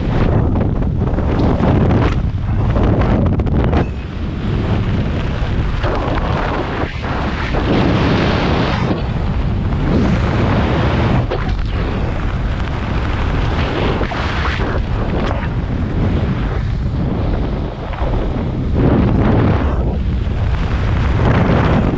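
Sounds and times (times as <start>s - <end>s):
wind blast on microphone: 0.0s - 21.9s.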